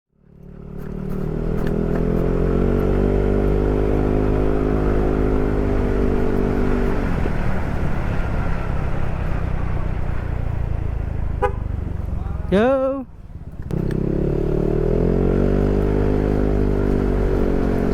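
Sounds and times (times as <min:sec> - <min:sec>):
scooter engine running: 0:00.2 - 0:17.9.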